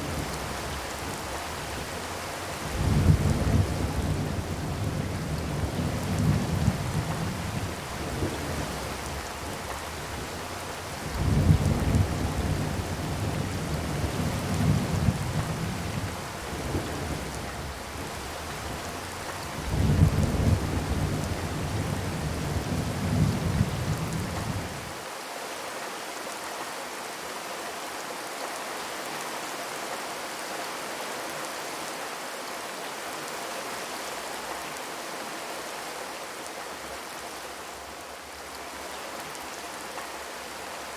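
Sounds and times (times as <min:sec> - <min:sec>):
rain on a metal roof: 0:00.0 - 0:40.9.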